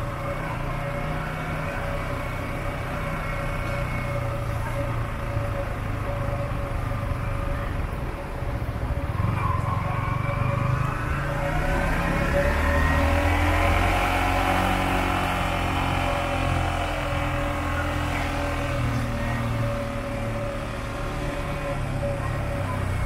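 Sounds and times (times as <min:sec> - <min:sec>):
hum of traffic: 0:00.0 - 0:23.0.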